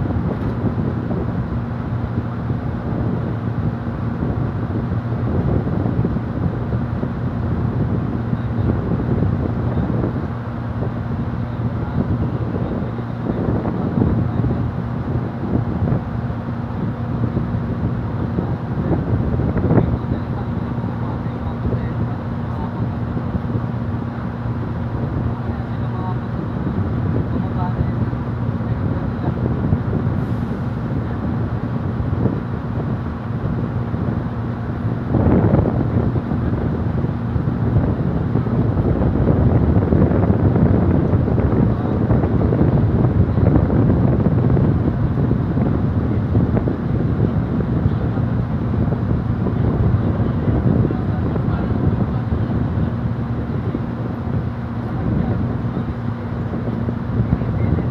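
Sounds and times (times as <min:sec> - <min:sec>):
ferry engines droning: 0:00.0 - 0:57.9
wind on microphone: 0:00.0 - 0:57.9.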